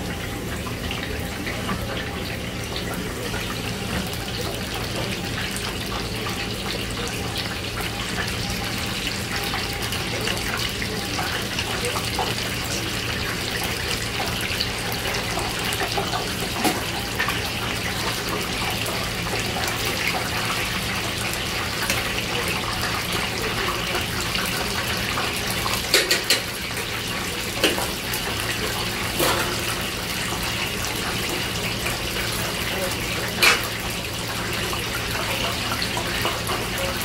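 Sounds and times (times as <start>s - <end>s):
oil sizzling in fryer: 0.0s - 37.0s.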